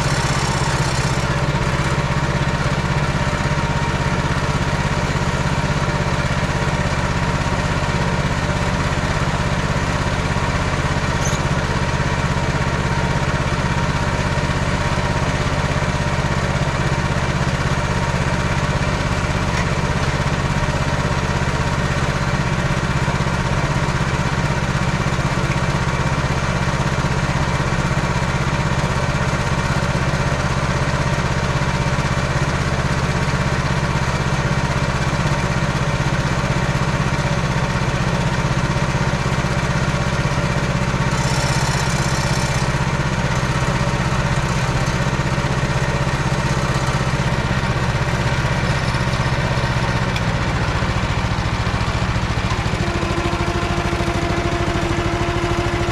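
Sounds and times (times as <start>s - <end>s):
small tractor engine running: 0.0s - 55.9s.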